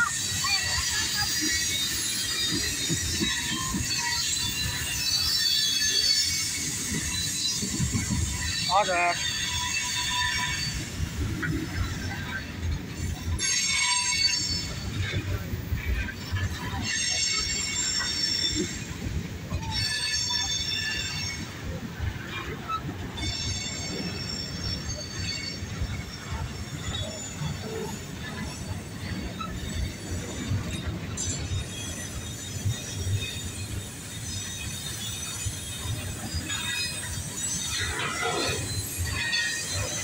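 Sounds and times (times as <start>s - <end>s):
train wheels rumbling and clattering: 0.0s - 40.0s
wheel flanges squealing: 0.0s - 40.0s.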